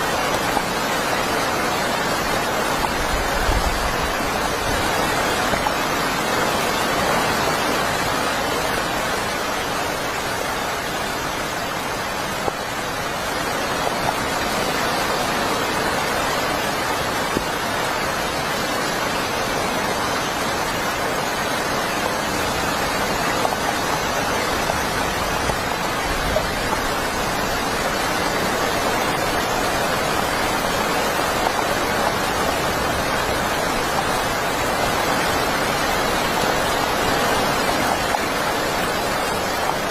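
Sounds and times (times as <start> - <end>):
heavy rain hissing: 0.0 - 39.9
raindrops ticking: 0.0 - 39.9.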